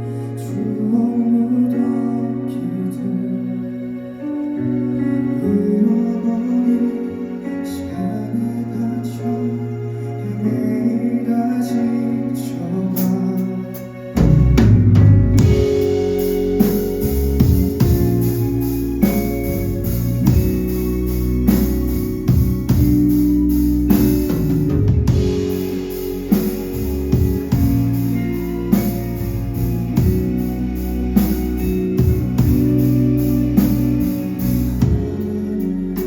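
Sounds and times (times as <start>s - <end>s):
live band playing instrumental ballad: 0.0s - 36.0s.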